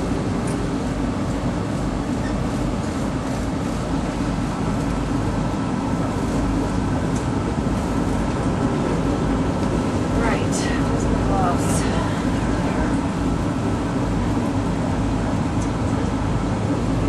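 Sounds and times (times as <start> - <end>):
streetcar rumbling: 0.0 - 17.0.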